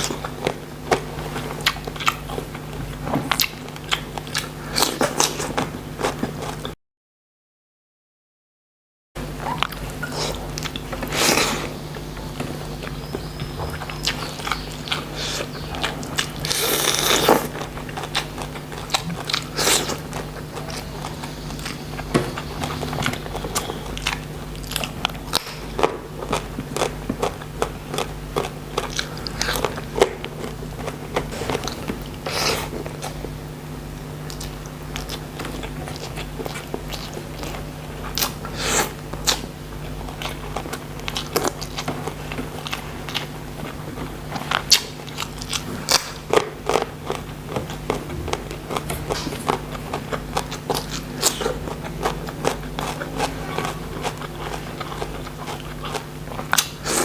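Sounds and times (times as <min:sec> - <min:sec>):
person chewing crunchy food: 0:00.0 - 0:06.8, 0:09.4 - 0:57.0
steady low hum: 0:00.0 - 0:06.8, 0:09.2 - 0:57.0.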